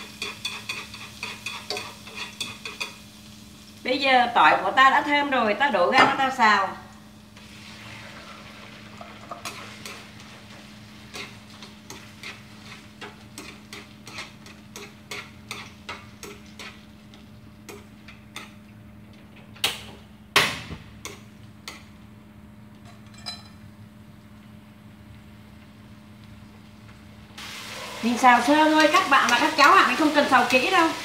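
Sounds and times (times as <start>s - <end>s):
faint sizzling: 0.0s - 18.8s, 22.7s - 31.0s.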